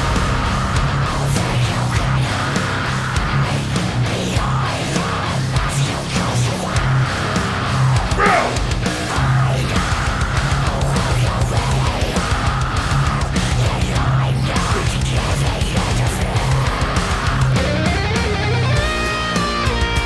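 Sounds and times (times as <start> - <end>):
bass guitar: 0.0 - 20.0
distorted electric guitars: 0.0 - 20.0
fast driving drumming: 0.0 - 20.0.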